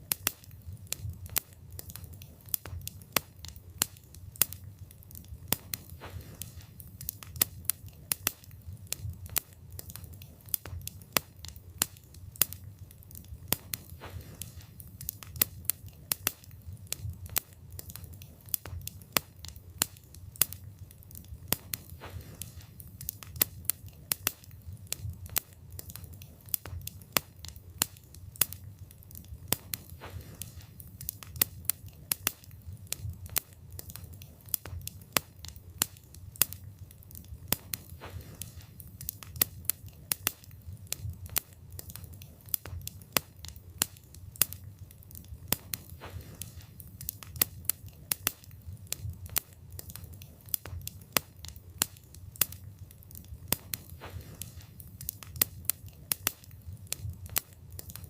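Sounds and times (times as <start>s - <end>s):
campfire wood crackling and popping: 0.0s - 58.0s
low rumble of flames: 0.0s - 58.0s.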